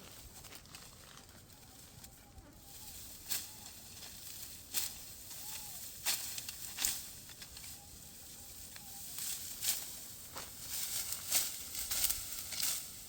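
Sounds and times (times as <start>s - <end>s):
dry wheat stalks crunching: 0.0s - 13.0s.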